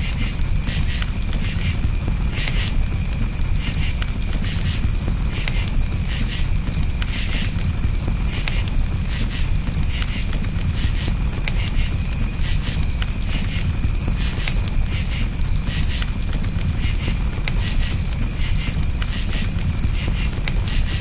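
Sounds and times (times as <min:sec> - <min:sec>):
campfire crackling and popping: 0:00.0 - 0:21.0
crickets chirping: 0:00.0 - 0:21.0.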